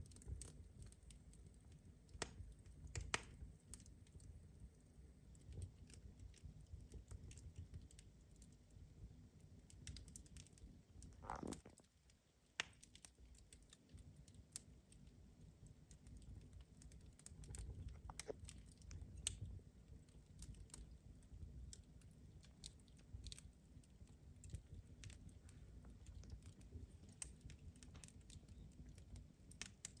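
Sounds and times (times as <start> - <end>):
low steady rumble: 0.0 - 30.0
wood fire crackling: 0.0 - 30.0.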